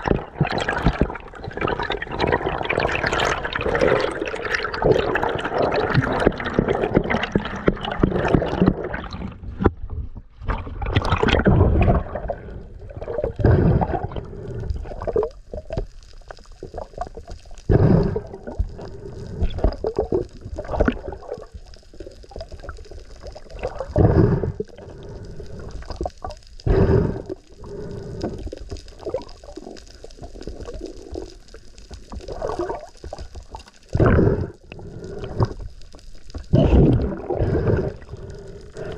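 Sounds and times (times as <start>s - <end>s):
water sloshing and gurgling underwater: 0.0s - 38.9s.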